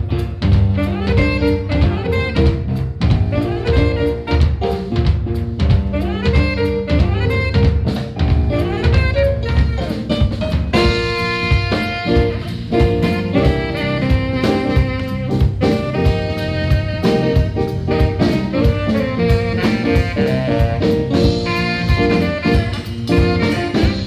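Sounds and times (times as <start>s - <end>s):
bass guitar: 0.0s - 24.0s
drum kit: 0.0s - 24.0s
keyboards: 0.0s - 24.0s
saxophone: 0.0s - 24.0s.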